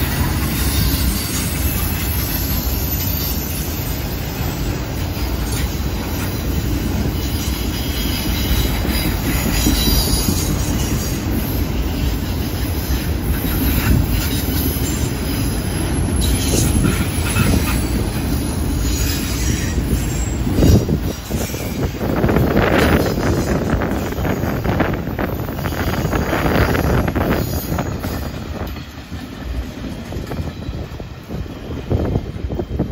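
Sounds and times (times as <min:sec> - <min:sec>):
high wheel squeal: 0:00.0 - 0:28.9
train wheels rumbling on rails: 0:00.0 - 0:32.9.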